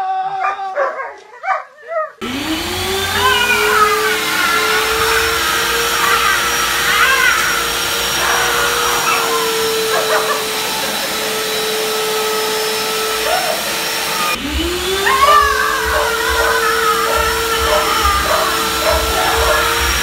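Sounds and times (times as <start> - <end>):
vacuum cleaner whining hum: 2.2 - 20.0.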